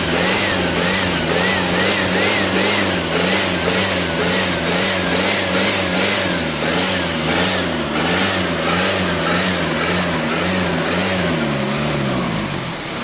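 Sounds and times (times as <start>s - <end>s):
turbodiesel engine running: 0.0s - 13.0s.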